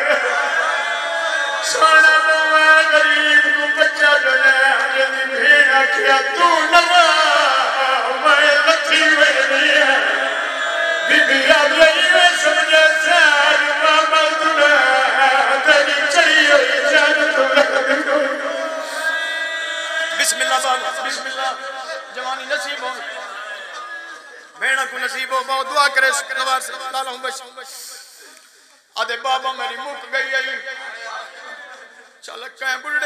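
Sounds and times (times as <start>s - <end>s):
man chanting a lament: 0.0s - 0.7s, 1.6s - 10.4s, 11.1s - 19.4s, 20.1s - 33.0s.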